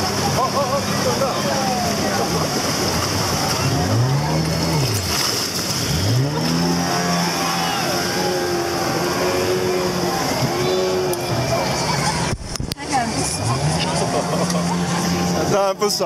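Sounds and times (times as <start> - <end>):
outboard motor revving: 0.0 - 16.0
water rushing through rapid: 0.0 - 16.0.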